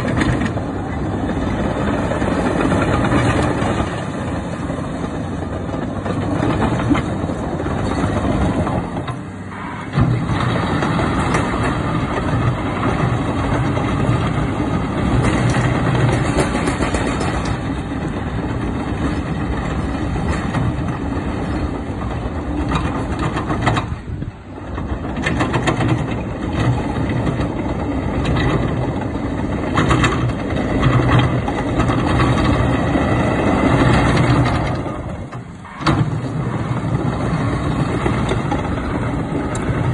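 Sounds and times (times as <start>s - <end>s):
diesel engine running: 0.0s - 39.9s
steel tracks clattering: 0.0s - 39.9s.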